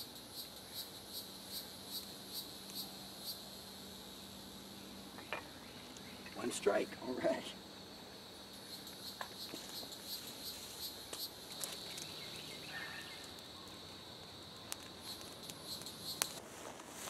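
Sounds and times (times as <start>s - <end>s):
insect buzzing: 0.0s - 16.4s
kindling fire crackling: 0.0s - 17.0s.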